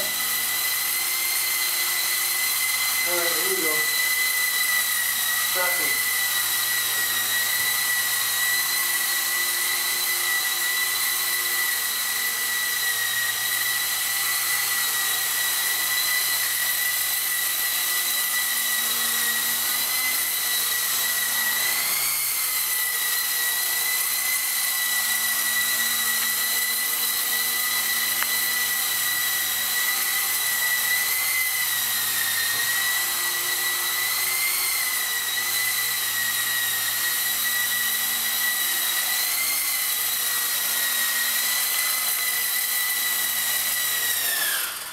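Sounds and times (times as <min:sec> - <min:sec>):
rc helicopter whine: 0:00.0 - 0:44.9.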